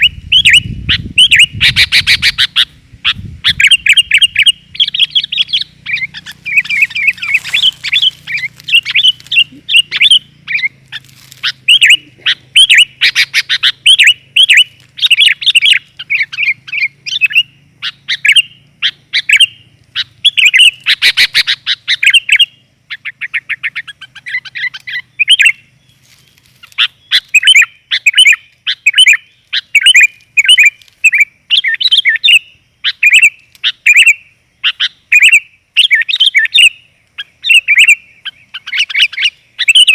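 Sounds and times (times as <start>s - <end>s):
bulbul chirping and trilling: 0.0s - 26.0s, 26.6s - 39.9s.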